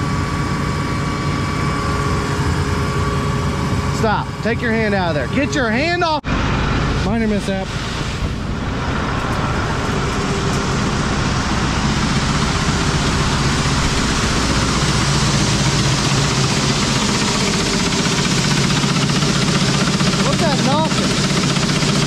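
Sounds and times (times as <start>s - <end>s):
engine running: 0.0s - 22.0s
grain machinery rushing noise: 0.0s - 22.0s.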